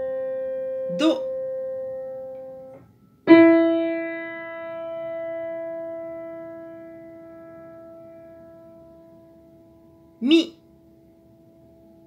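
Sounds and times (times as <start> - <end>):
piano note ringing: 0.0 - 12.0.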